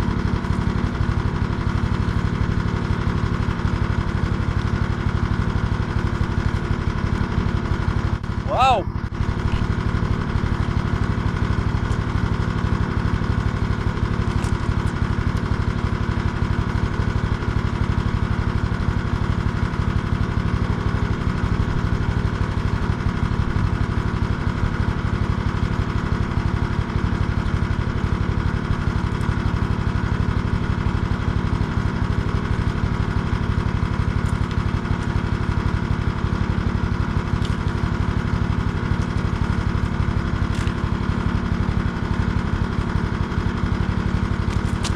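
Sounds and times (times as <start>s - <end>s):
small engine running steadily: 0.0s - 44.9s.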